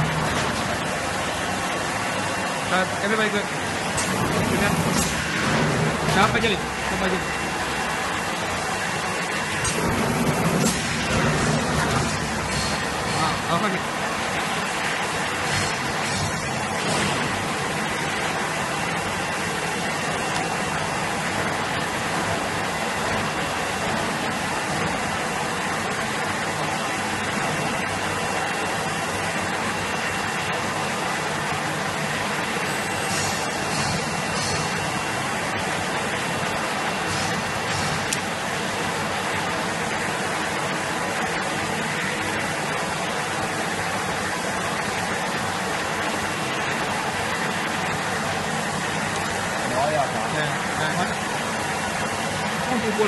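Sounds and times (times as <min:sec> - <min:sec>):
machinery running: 0:00.0 - 0:53.0.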